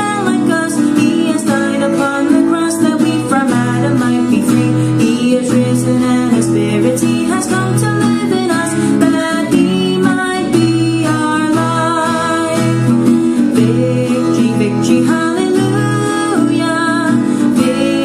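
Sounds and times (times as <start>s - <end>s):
person singing: 0.0s - 18.0s
plucked acoustic guitar: 0.0s - 18.0s.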